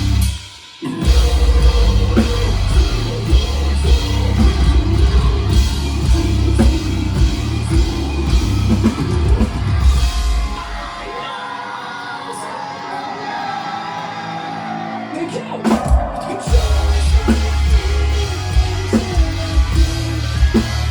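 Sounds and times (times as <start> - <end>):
heavy drums: 0.0 - 11.6, 15.3 - 20.9
metal band playing live: 0.0 - 20.9.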